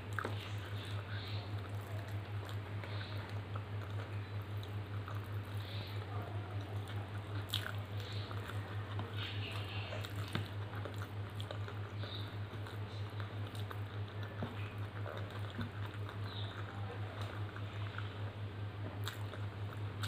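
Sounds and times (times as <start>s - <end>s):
fingers squishing rice on plate: 0.0s - 20.0s
steady low hum: 0.0s - 20.0s
wet chewing: 0.0s - 20.0s.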